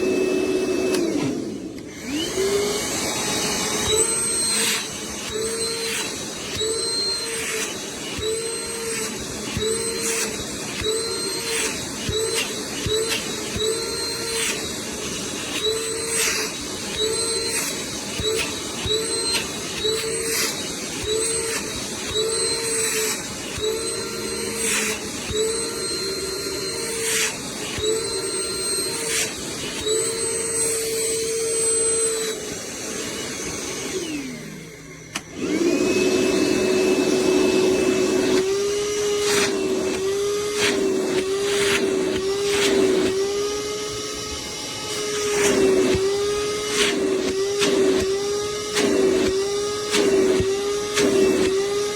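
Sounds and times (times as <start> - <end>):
shop vacuum running: 0.0 - 51.9.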